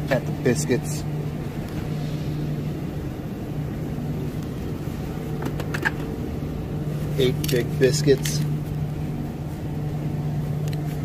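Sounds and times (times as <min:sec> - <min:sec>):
refrigerated display case hum: 0:00.0 - 0:11.0.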